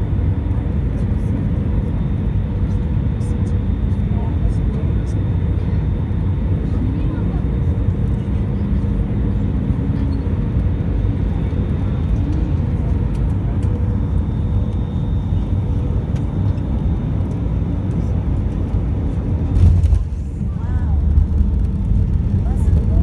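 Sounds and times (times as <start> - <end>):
airliner cabin rumble: 0.0 - 23.0
faint engine tones: 0.0 - 23.0.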